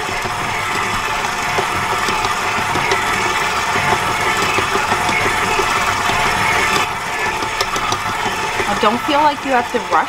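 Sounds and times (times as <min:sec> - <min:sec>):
stand mixer motor whirring: 0:00.0 - 0:10.0.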